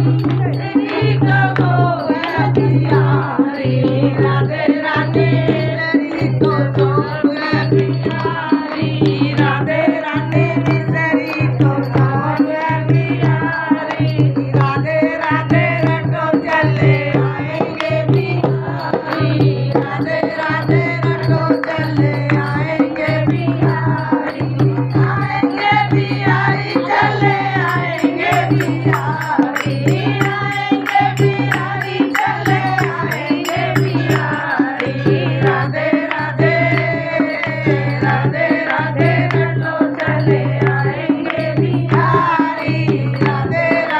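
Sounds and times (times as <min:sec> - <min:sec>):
hand drum beat: 0:00.0 - 0:43.9
small hand cymbals ticking: 0:00.0 - 0:43.9
women singing in unison: 0:00.0 - 0:43.9.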